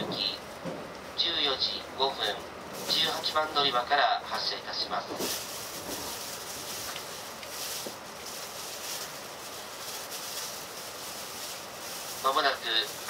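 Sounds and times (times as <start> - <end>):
train interior running noise: 0.0 - 13.0.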